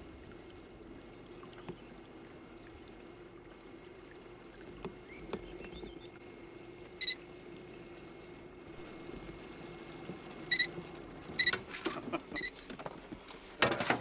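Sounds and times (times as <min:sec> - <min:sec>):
boat motor humming: 0:00.0 - 0:13.6.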